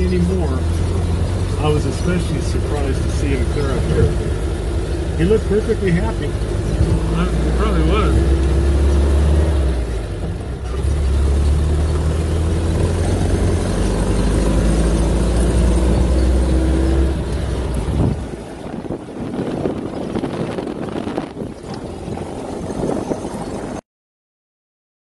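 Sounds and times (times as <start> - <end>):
car engine running: 0.0 - 23.8
vehicle rattling on rough ground: 0.0 - 23.8.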